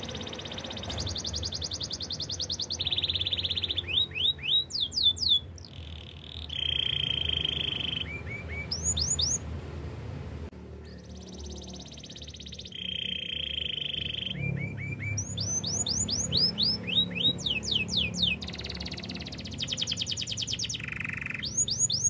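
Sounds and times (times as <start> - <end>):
canary singing trills: 0.0 - 9.5, 10.7 - 22.0.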